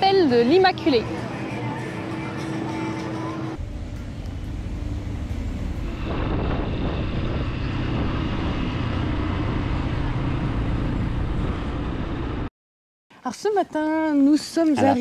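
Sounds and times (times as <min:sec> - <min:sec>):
street ambience: 0:00.0 - 0:12.5.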